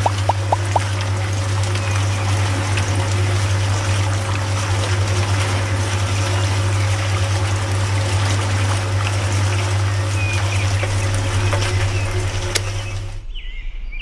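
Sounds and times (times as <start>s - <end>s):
trickle of liquid: 0.0s - 13.2s
juicer motor hum: 0.0s - 13.4s.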